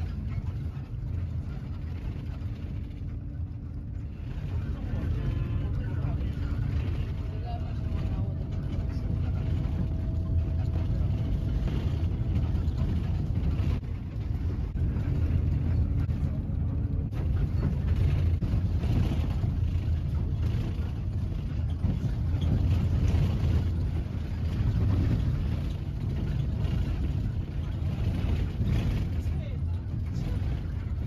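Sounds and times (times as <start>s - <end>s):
road noise: 0.0s - 31.0s
vehicle engine rumble: 0.0s - 31.0s.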